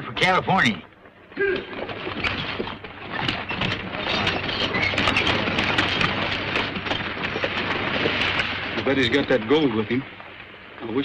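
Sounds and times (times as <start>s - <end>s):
horse hoofbeats: 0.0s - 9.3s
coach wheels rumbling: 0.0s - 11.0s.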